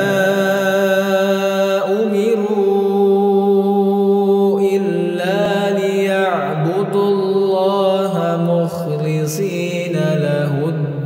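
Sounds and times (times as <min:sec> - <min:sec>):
man chanting: 0:00.0 - 0:11.0.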